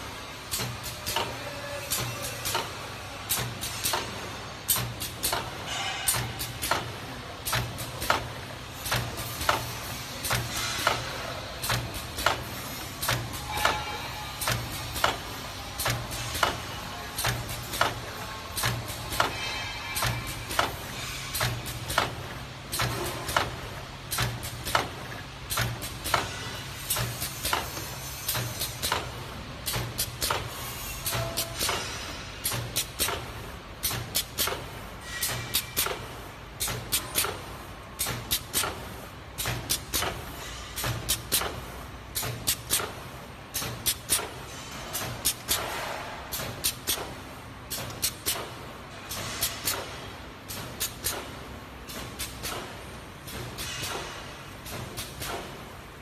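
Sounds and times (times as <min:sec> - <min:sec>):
bag making machine clattering: 0:00.0 - 0:56.0.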